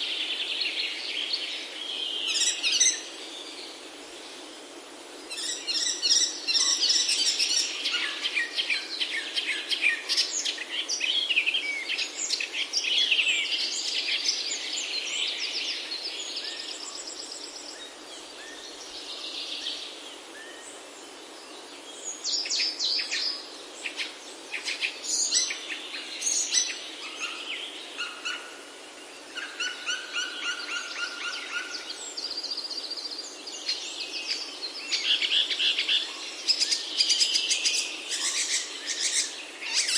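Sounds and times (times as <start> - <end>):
soft background hiss: 0.0 - 39.9
songbirds chirping and trilling: 0.0 - 39.9.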